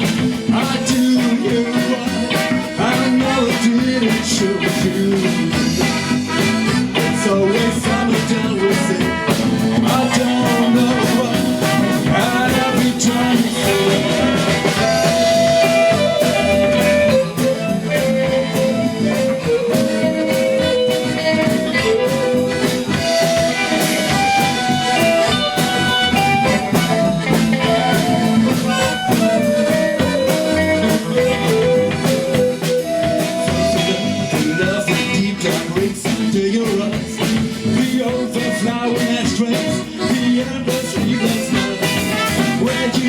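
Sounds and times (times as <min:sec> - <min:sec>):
guitar melody: 0:00.0 - 0:43.0
rock band playing: 0:00.0 - 0:43.0.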